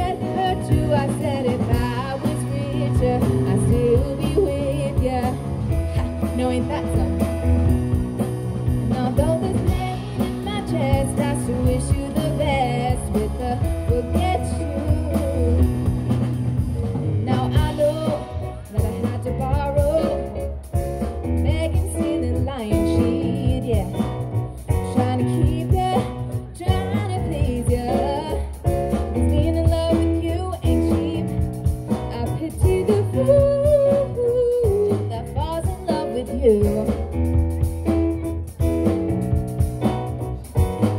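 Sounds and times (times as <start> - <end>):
woman singing: 0.0 - 7.6, 8.8 - 16.1, 17.2 - 20.6, 21.3 - 37.2
drum kit: 0.0 - 40.9
keyboard: 0.0 - 40.9
upright bass: 0.0 - 40.9.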